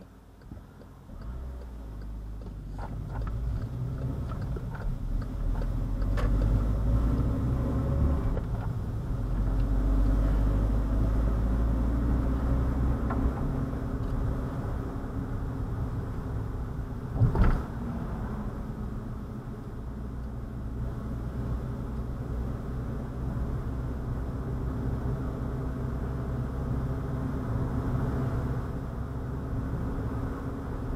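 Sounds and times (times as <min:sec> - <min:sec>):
vehicle low rumble: 0:00.0 - 0:30.9.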